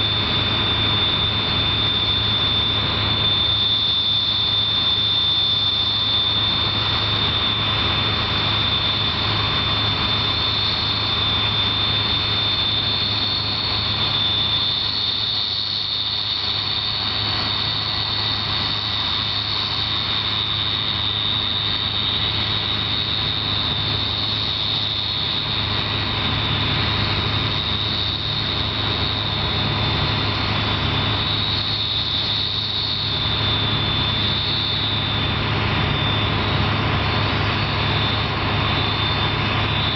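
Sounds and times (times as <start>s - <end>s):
high-pitched machine whine: 0.0s - 39.9s
low engine hum: 0.0s - 39.9s.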